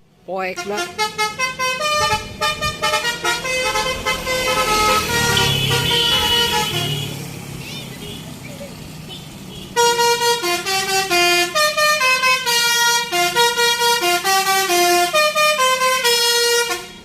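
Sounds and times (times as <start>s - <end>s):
bus air horn playing a melody: 0.6s - 8.3s, 9.1s - 17.0s.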